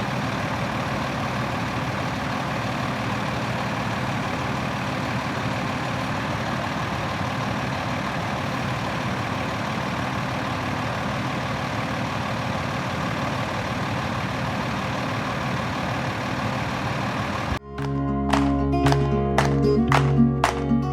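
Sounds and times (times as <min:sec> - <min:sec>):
diesel truck engine idling: 0:00.0 - 0:20.9.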